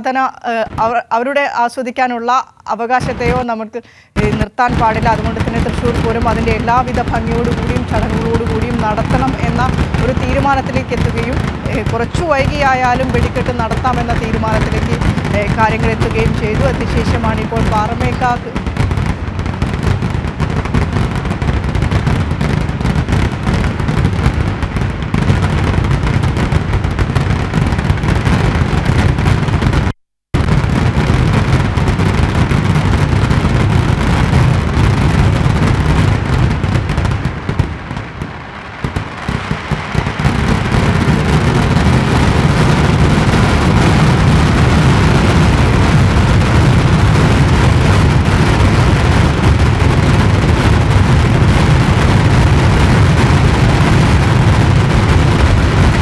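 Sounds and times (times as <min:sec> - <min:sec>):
fireworks exploding: 0:02.8 - 0:56.0.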